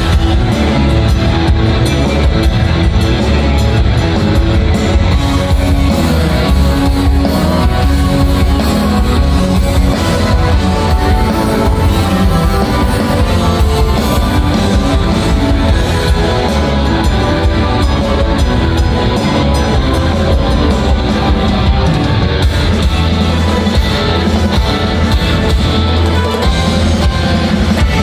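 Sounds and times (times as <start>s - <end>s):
live metal band playing: 0.0s - 28.0s.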